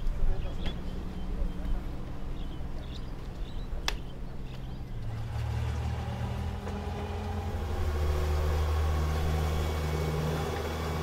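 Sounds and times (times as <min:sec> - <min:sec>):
engine humming at low speed: 0:00.0 - 0:11.0.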